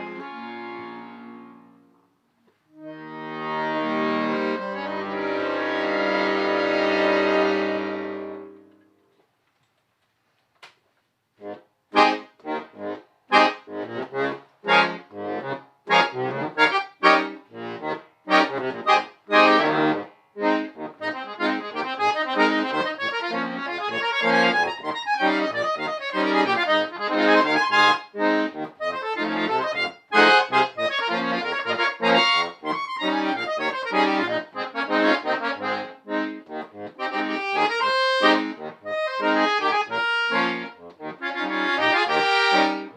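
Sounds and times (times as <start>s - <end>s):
solo accordion music: 0.0s - 9.0s, 11.4s - 42.9s.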